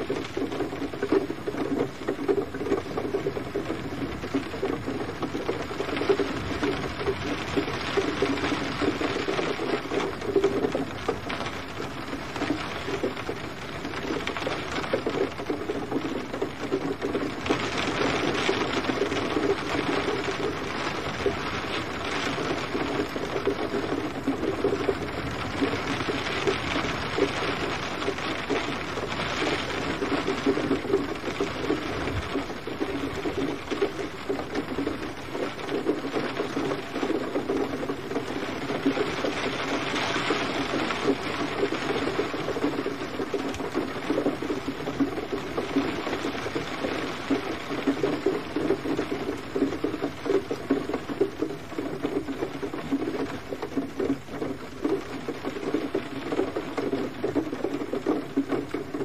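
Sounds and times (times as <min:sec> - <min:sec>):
gentle rain patter: 0:00.0 - 0:59.0.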